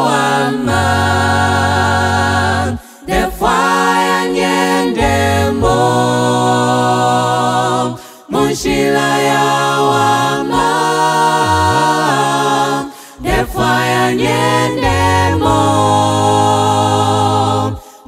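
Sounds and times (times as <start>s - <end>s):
a cappella group singing harmony: 0.0s - 18.0s.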